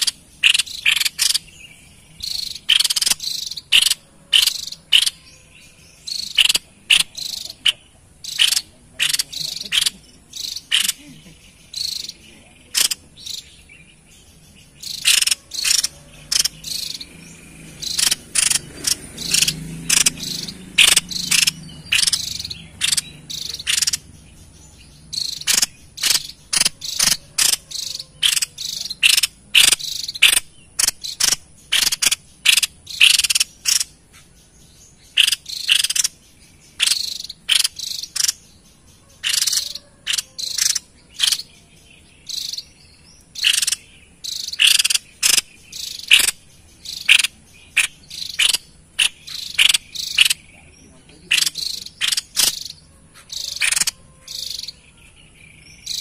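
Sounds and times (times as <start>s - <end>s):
babbler bird harsh calls: 0.0s - 56.0s.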